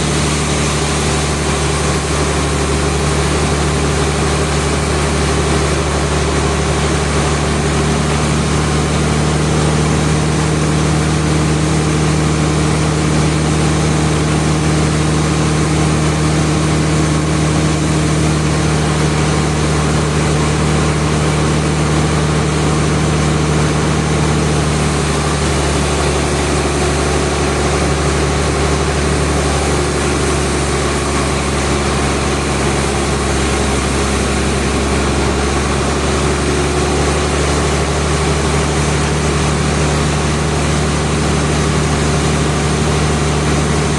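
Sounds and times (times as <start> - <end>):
heavy machine engine humming: 0.0 - 43.9.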